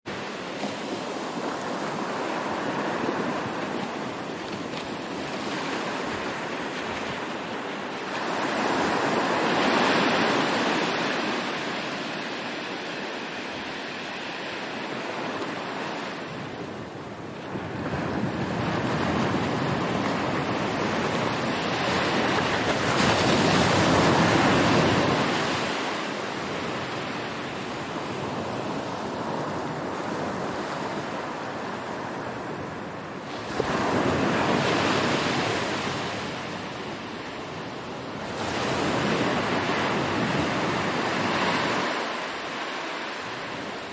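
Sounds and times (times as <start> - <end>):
ocean waves washing on shore: 0.1 - 43.9.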